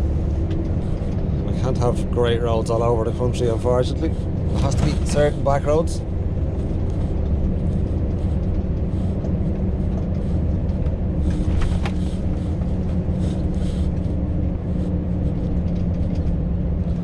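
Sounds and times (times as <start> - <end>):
road noise: 0.0 - 17.0
truck engine cruising: 0.0 - 17.0.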